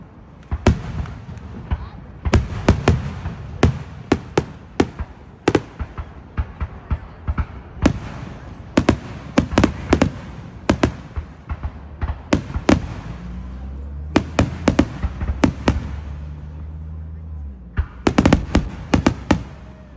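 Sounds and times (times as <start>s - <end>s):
fireworks booming and cracking: 0.3s - 19.9s.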